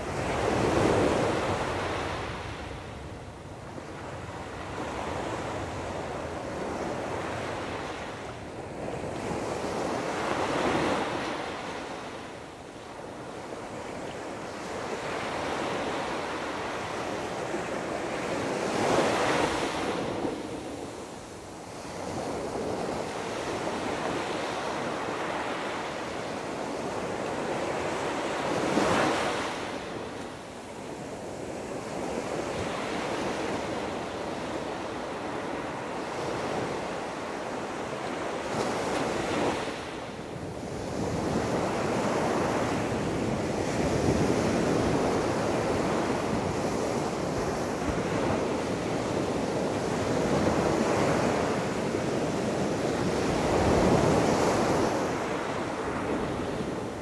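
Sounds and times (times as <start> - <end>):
surf washing up a beach: 0.0 - 57.0.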